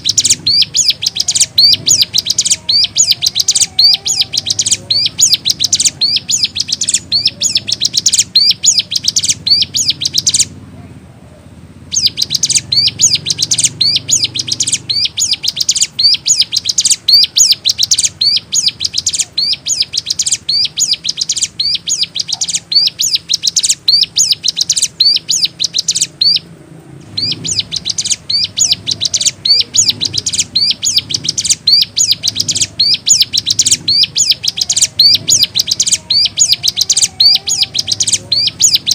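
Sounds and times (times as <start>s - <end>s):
bird singing rapid high chirps: 0.0s - 10.6s, 11.8s - 38.9s.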